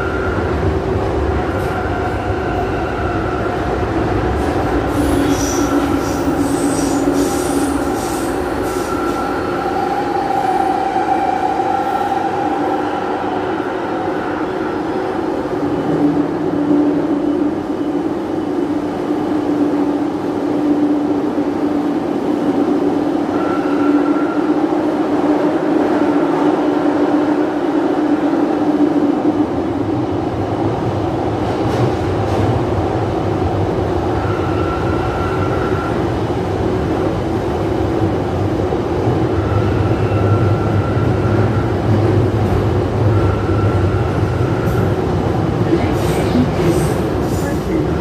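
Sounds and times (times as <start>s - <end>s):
underground train rumble: 0.0s - 48.0s.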